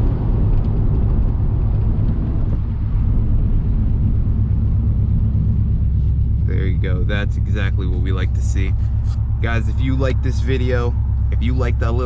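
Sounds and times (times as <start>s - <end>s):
car engine drone inside cabin: 0.0s - 12.0s
road rumble: 0.0s - 12.0s.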